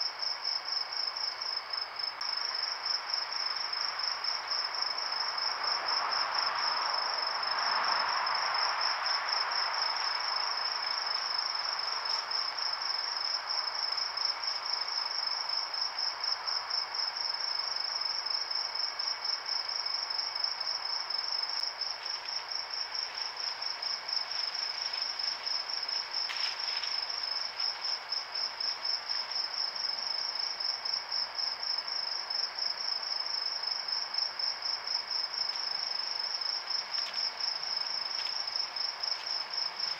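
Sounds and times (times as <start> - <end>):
cricket chirping: 0.0 - 39.9
night insects hiss: 0.0 - 39.9.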